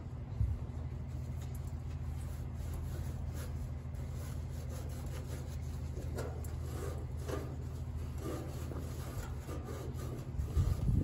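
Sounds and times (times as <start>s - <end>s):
rag wiping metal: 1.1s - 11.0s.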